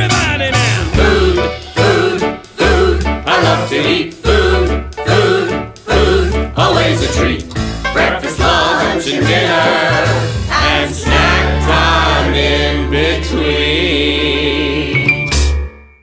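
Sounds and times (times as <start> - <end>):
steady bass line: 0.0 - 15.5.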